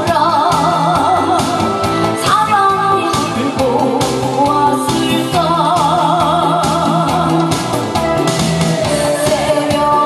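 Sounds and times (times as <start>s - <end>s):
woman singing with vibrato: 0.0s - 7.6s, 8.8s - 10.0s
amplified instrumental backing: 0.0s - 10.0s.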